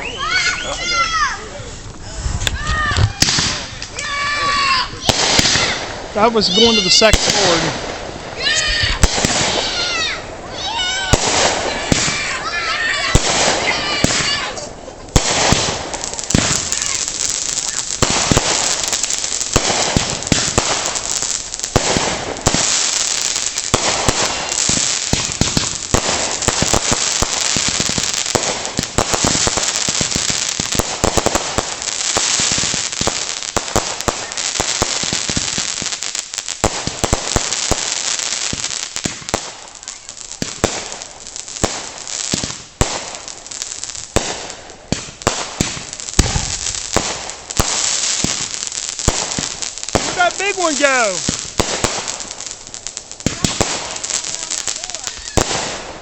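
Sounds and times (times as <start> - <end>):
fireworks banging and crackling: 0.0 - 56.0.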